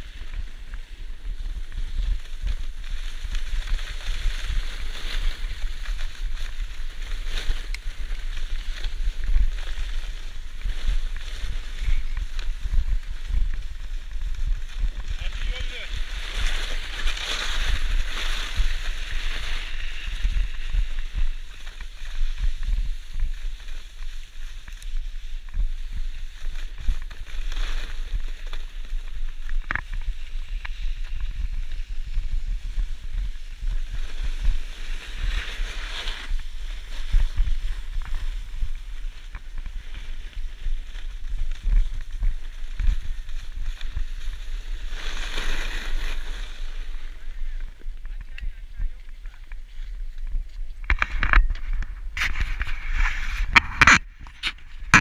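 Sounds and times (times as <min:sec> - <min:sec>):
snowboard sliding on snow: 0:00.0 - 0:55.0.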